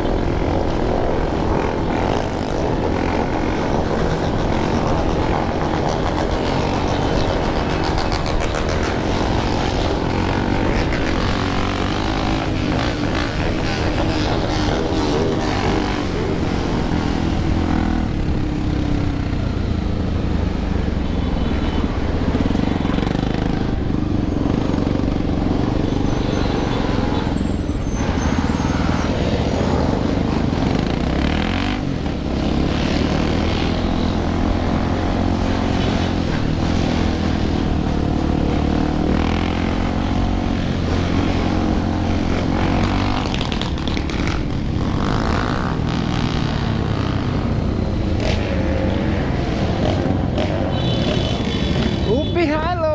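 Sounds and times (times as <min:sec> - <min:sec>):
motorcycles revving: 0:00.0 - 0:52.9.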